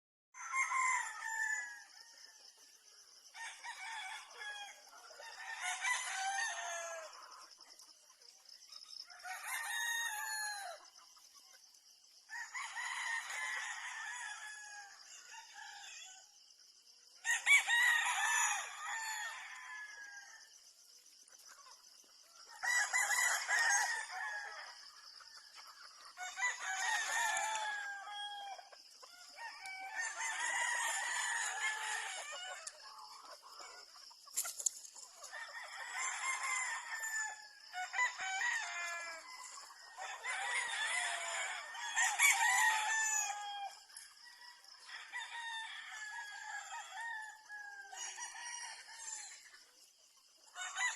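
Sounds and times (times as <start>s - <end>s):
roosters crowing: 0.4s - 7.7s, 9.0s - 11.0s, 12.3s - 16.4s, 17.2s - 20.7s, 22.2s - 49.5s, 50.5s - 50.9s.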